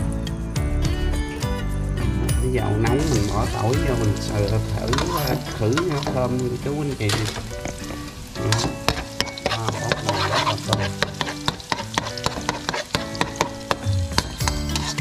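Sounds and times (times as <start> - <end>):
garlic sizzling in hot oil: 2.5 - 15.0
spatula scraping and knocking pan: 2.9 - 15.0.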